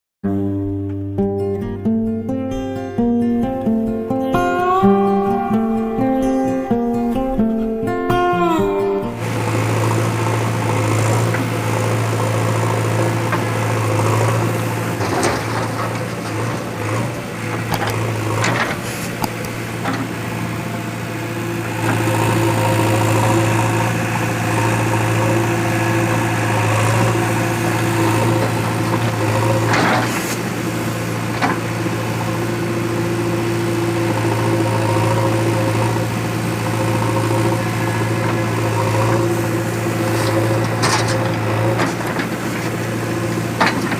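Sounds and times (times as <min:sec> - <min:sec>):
diesel engine running: 0:00.3 - 0:43.9.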